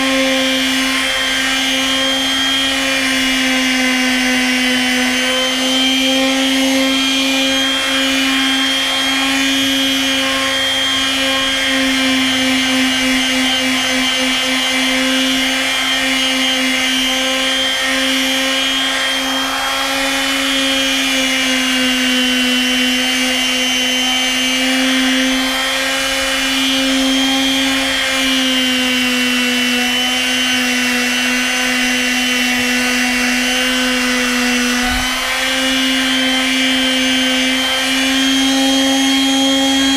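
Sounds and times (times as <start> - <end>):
palm sander sanding boards: 0.0 - 39.9.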